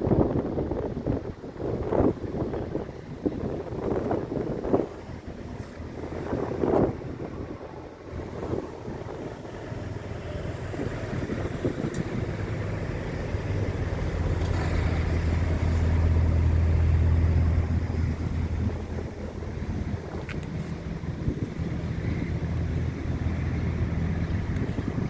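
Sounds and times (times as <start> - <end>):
wind buffeting microphone: 0.0 - 25.0
truck diesel engine running: 3.4 - 25.0.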